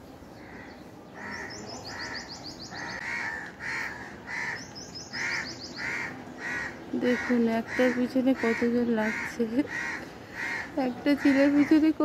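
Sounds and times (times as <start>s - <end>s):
crows cawing: 0.4s - 12.0s.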